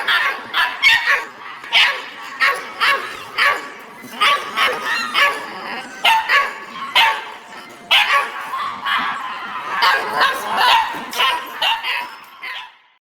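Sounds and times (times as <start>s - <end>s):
dogs barking: 0.0s - 13.0s
dogs yipping: 0.0s - 13.0s.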